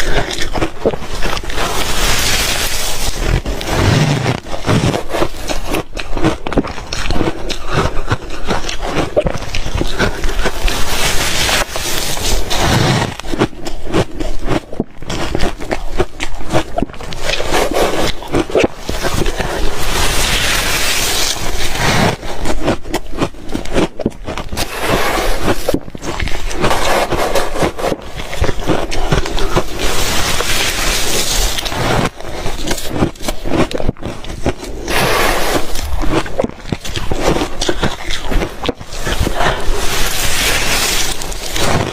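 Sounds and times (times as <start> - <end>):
ice being chewed: 0.0 - 41.9.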